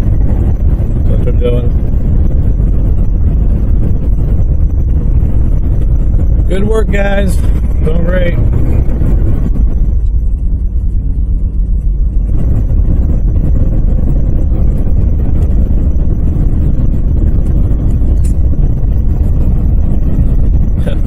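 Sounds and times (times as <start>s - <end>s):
car driving interior rumble: 0.0s - 21.0s
faint steady hum: 0.0s - 21.0s.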